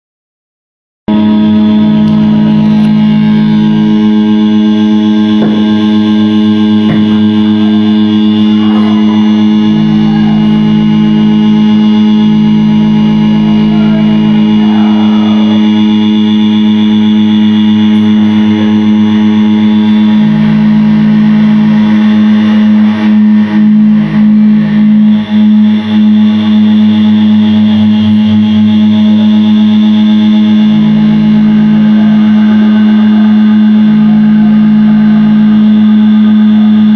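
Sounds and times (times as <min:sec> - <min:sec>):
distorted noise drone music: 0:01.1 - 0:36.9
steady low tone: 0:01.1 - 0:36.9.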